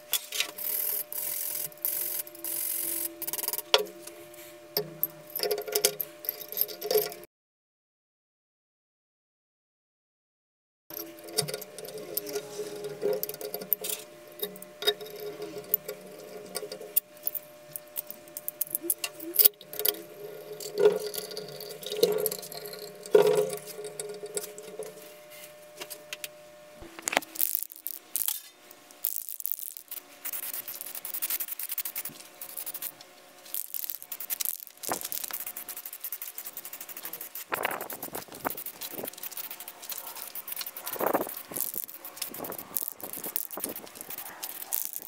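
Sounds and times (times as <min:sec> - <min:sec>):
screwdriver on metal box: 0:00.4 - 0:04.1, 0:04.8 - 0:07.2, 0:10.9 - 0:25.0, 0:29.1 - 0:45.0.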